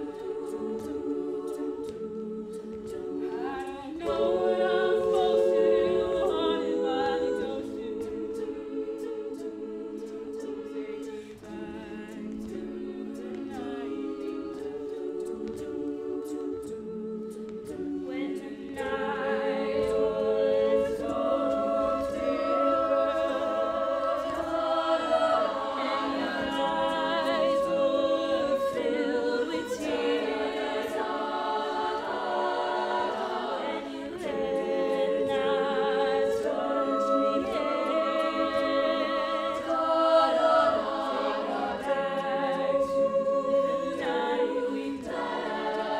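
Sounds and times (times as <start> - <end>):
women singing a cappella: 0.0 - 45.9.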